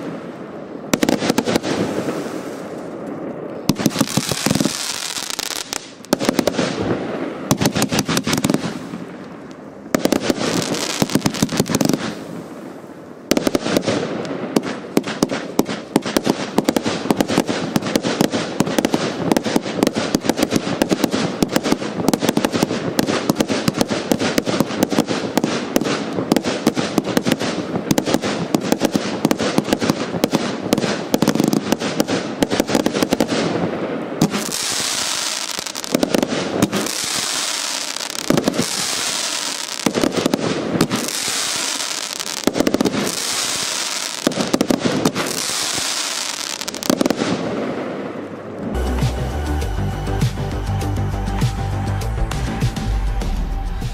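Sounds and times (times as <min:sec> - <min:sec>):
firework barrage rapid shots: 0:00.9 - 0:02.8, 0:03.6 - 0:09.2, 0:09.9 - 0:12.6, 0:13.3 - 0:48.1.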